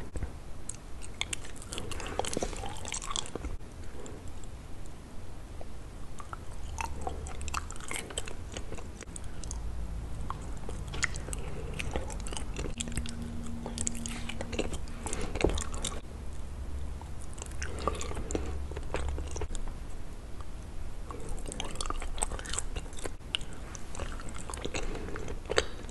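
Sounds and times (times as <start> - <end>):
chewing sticky food: 0.0 - 4.6, 5.6 - 25.9.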